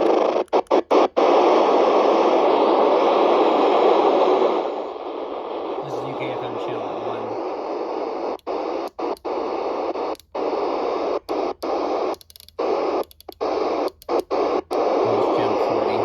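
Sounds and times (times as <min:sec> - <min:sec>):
radio receiver hiss: 0:00.0 - 0:16.0.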